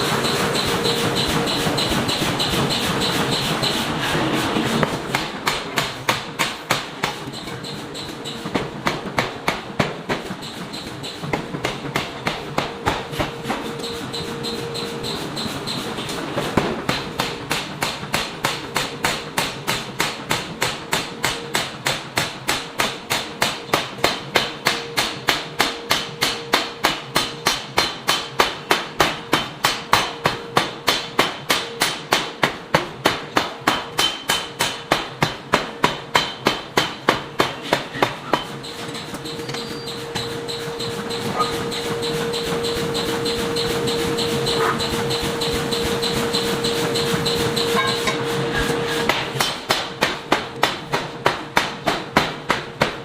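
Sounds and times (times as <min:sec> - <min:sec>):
air hammer striking anvil: 0:00.0 - 0:53.0.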